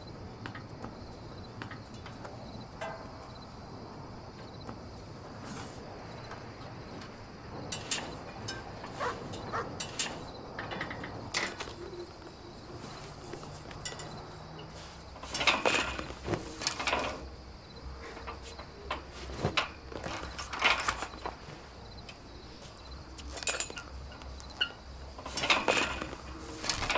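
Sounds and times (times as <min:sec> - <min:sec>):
crickets chirring: 0:00.0 - 0:26.9
person climbing metal railing fence: 0:00.0 - 0:26.9.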